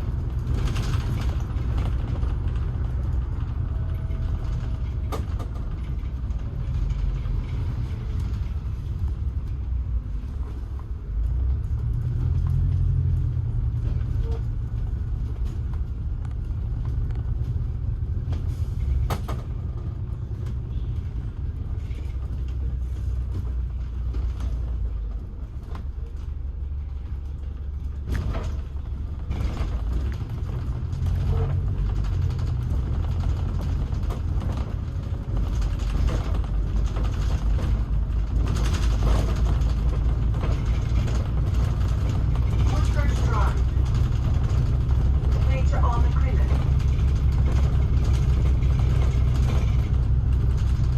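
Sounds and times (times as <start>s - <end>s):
creaking and rattling: 0.0s - 50.9s
vehicle rumbling: 0.0s - 50.9s.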